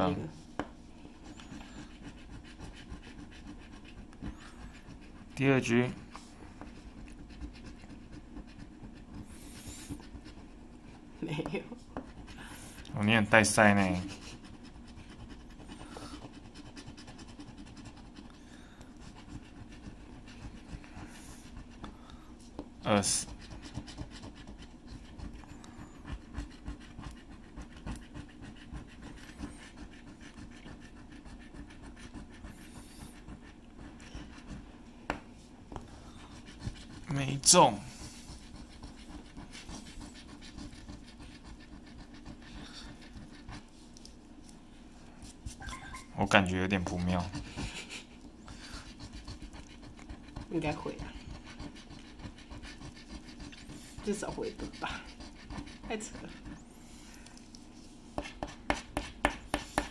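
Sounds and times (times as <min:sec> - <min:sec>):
scratching lottery ticket: 0:01.1 - 0:11.2, 0:12.1 - 0:34.7, 0:36.0 - 0:44.5, 0:45.2 - 0:59.9.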